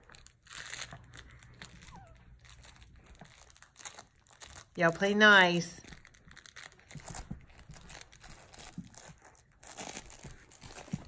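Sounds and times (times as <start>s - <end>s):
puppies rustling a toy: 0.0s - 11.0s.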